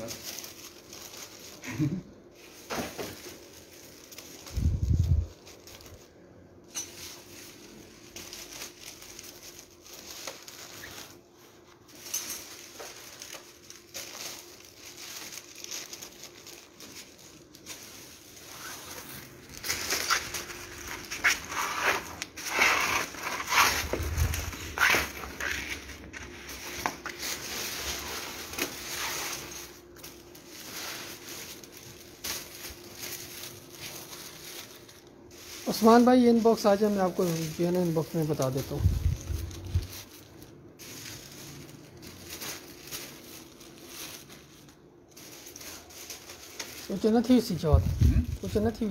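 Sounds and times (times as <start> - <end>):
kite sheets crinkling and rustling: 0.0 - 48.9.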